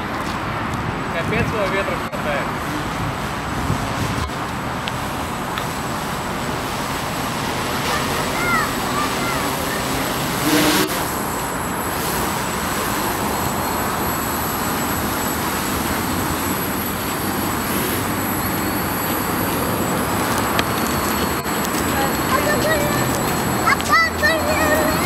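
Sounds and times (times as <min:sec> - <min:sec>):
quadcopter propellers whirring: 0:00.0 - 0:25.0.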